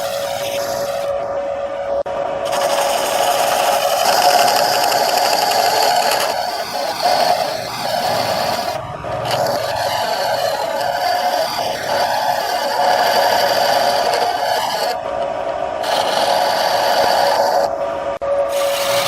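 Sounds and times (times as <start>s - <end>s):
turning tool scraping wood: 0.0s - 1.2s, 2.5s - 17.8s, 18.5s - 19.0s
wood lathe humming: 0.0s - 1.4s, 2.0s - 19.0s.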